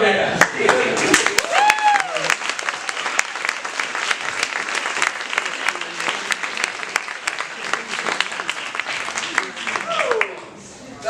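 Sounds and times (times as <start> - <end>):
audience applauding: 0.4 - 10.6.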